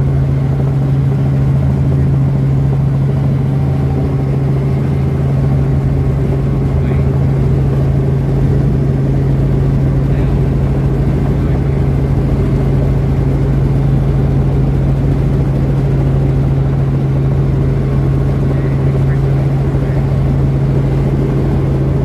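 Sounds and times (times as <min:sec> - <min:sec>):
helicopter engine and rotors droning: 0:00.0 - 0:22.0.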